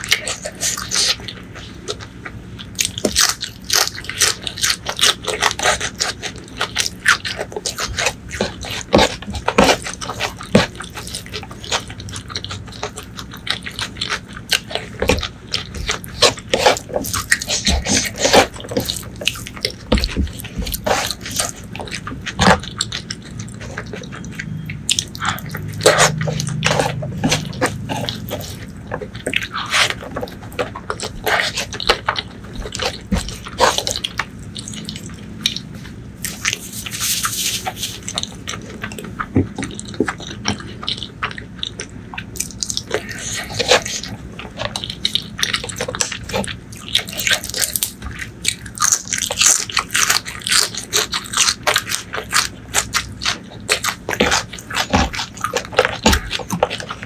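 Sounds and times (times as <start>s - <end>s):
wet chewing and lip smacks: 0.0s - 57.0s.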